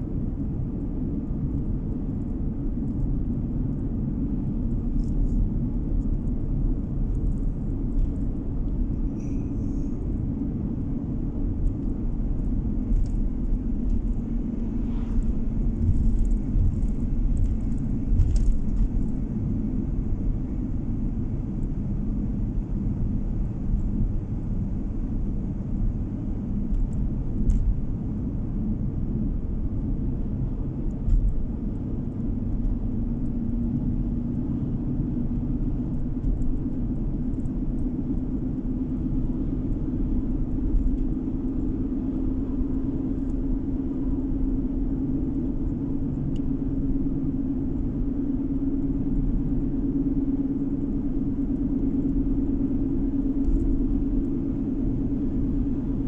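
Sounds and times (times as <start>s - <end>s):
car driving road noise: 0.0s - 56.0s.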